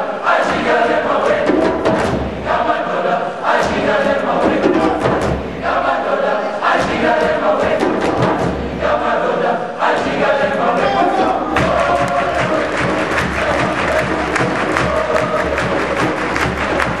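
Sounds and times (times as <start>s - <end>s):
choir singing chant-like song: 0.0s - 17.0s.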